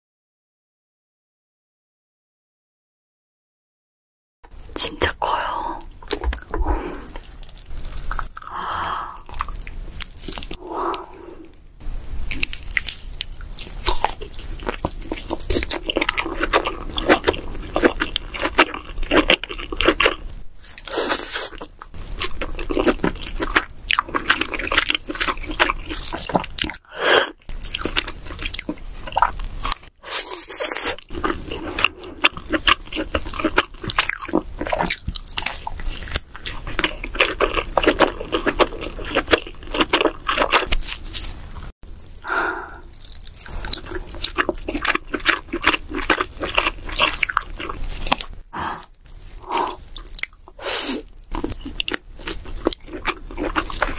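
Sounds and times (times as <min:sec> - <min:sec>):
wet chewing and crunching: 0:05.8 - 0:08.6, 0:09.2 - 0:11.6, 0:12.2 - 0:42.1, 0:42.8 - 0:53.9.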